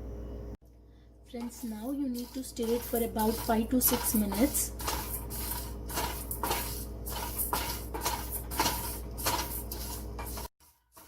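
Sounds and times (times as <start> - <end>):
low steady hum: 0.0 - 10.3
spatula scraping in a pan: 1.3 - 11.0.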